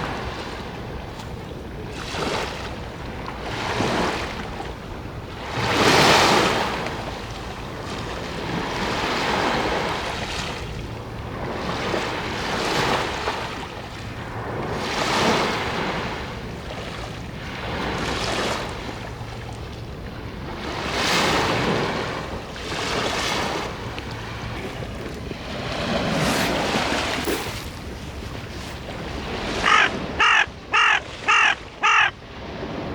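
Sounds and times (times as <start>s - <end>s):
waves washing onto shore: 0.0s - 32.9s.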